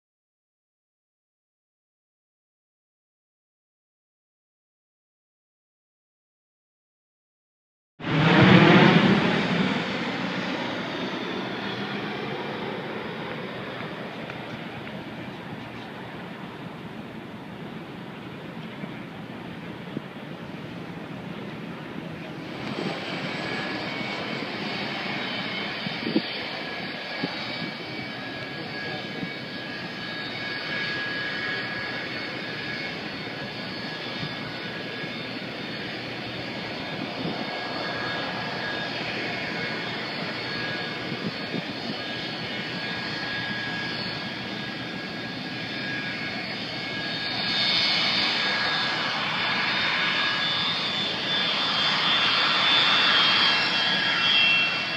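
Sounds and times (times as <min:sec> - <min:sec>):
jet engines whining: 0:08.0 - 0:54.9.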